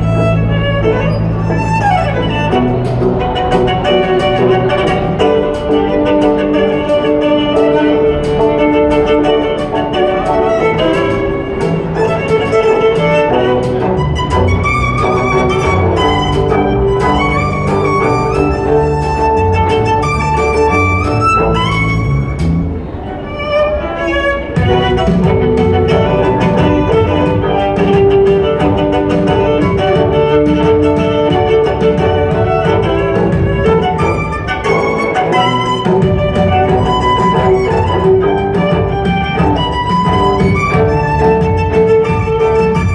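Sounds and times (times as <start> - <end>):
steady clicking beat: 0.0 - 22.9, 24.2 - 42.9
violin and cello melody: 0.0 - 42.9.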